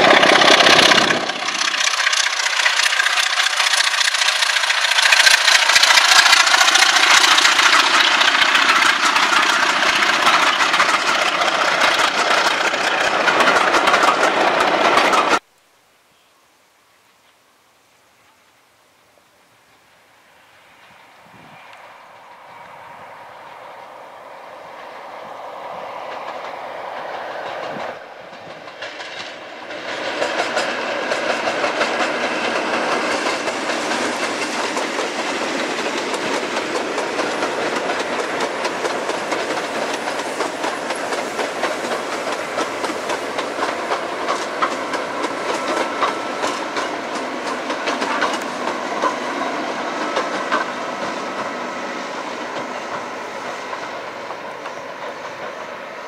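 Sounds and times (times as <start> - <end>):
diesel locomotive approaching: 0.0 - 15.5, 19.8 - 56.0
train passing with coaches: 0.0 - 15.5, 19.1 - 56.0
wheels clicking over rail joints: 0.0 - 15.5, 25.9 - 56.0.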